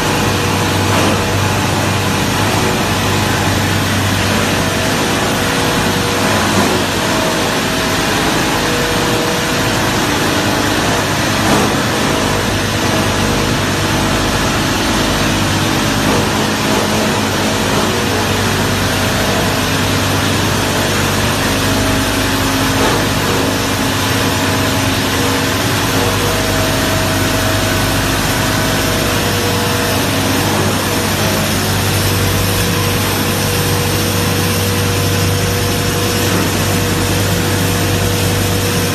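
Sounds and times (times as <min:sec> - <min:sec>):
wire granulator machine running: 0:00.0 - 0:38.9.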